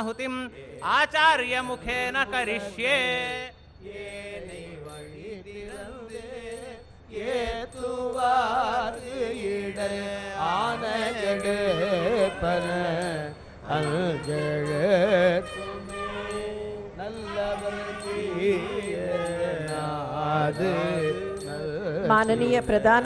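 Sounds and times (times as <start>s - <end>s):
priests chanting: 0.0s - 23.0s.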